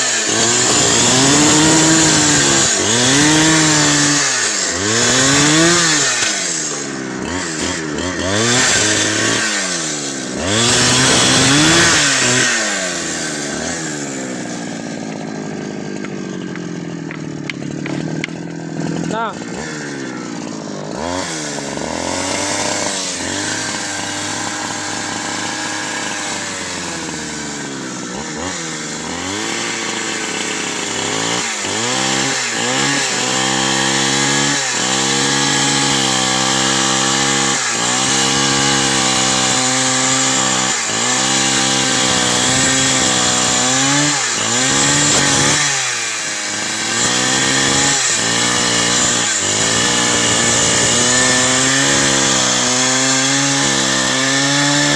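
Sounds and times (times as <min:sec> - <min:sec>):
chainsaw running hard: 0:00.0 - 0:54.9.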